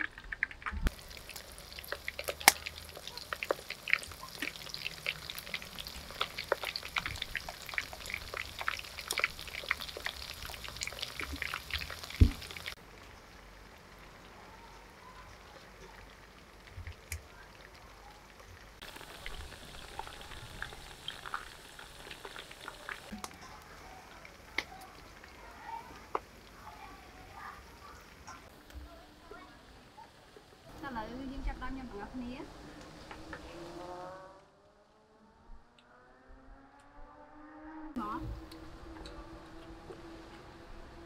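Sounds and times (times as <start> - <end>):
vegetables deep-frying in oil: 0.0 - 33.9.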